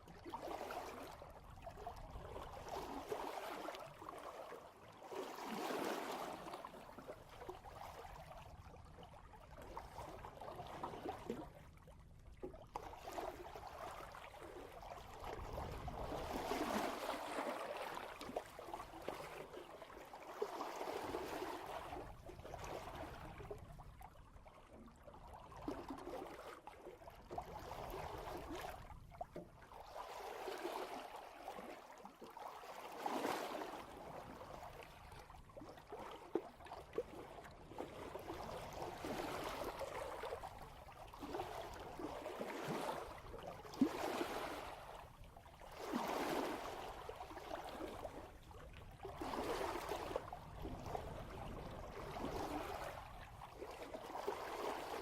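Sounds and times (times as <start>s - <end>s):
water rushing along boat bow: 0.2s - 11.4s, 12.4s - 23.6s, 25.2s - 55.0s.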